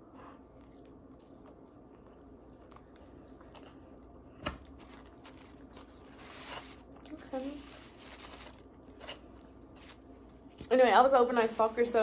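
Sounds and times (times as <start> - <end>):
person chewing: 0.3 - 10.6.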